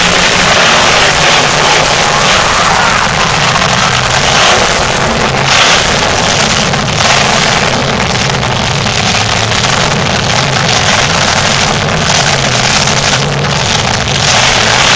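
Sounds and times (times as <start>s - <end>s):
loud truck engine running: 0.0s - 14.9s.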